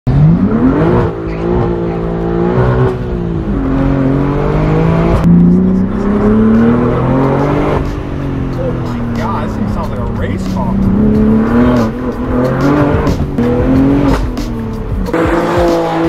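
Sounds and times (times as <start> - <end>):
car engine accelerating hard: 0.1 - 16.0
exhaust crack: 0.1 - 16.0.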